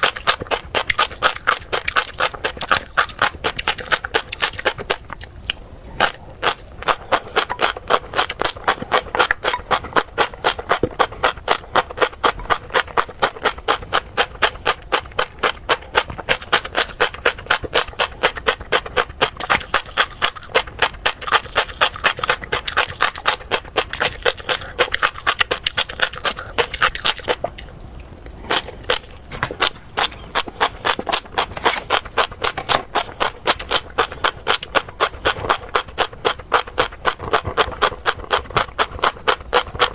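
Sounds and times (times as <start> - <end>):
fish roe crunching and popping: 0.0 - 39.9.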